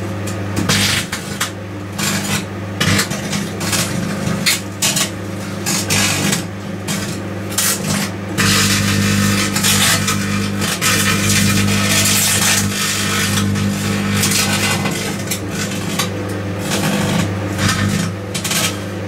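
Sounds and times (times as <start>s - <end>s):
microwave oven humming: 0.0s - 19.0s
crackling sparks: 0.2s - 19.0s.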